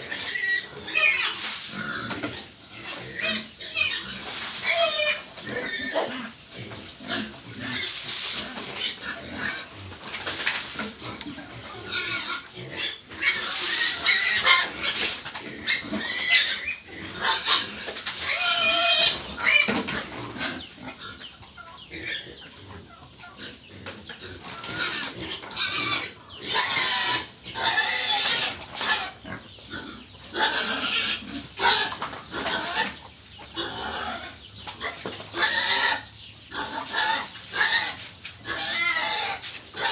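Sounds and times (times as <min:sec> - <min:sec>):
pigs squealing: 0:00.0 - 0:39.9.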